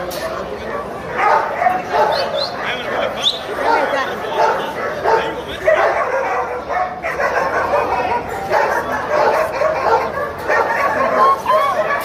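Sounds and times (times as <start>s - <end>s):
puppies yapping: 1.2s - 12.0s.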